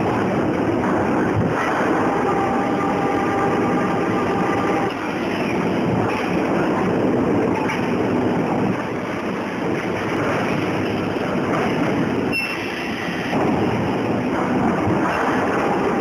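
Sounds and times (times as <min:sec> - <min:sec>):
conveyor machinery running: 0:00.0 - 0:16.0.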